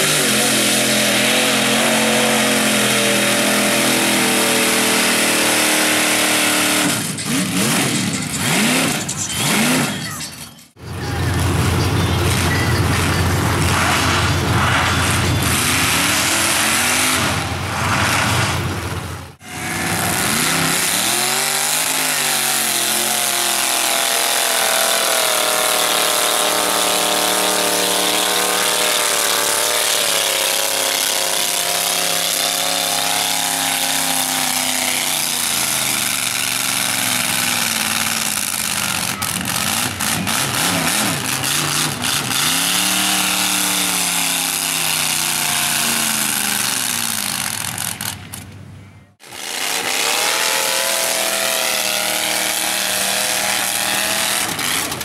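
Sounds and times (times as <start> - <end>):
truck engine revving in mud: 0.0 - 10.1, 10.7 - 48.4, 49.2 - 55.0.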